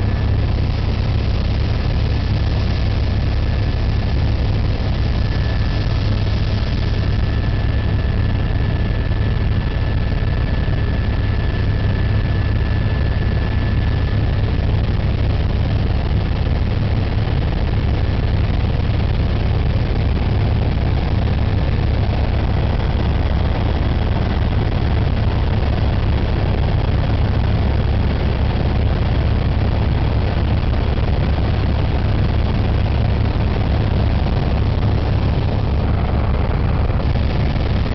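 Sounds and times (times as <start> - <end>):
helicopter engine and rotor drone: 0.0 - 37.9.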